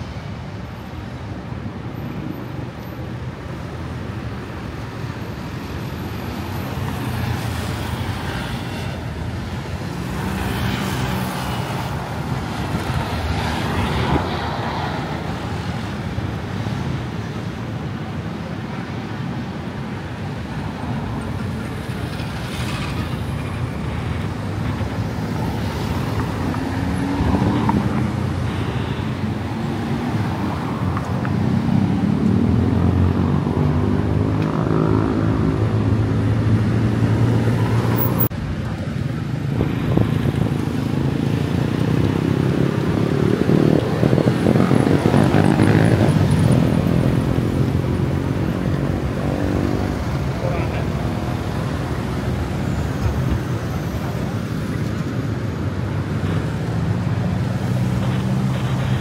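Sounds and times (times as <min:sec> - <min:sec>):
vehicles passing close by: 0:00.0 - 0:59.0.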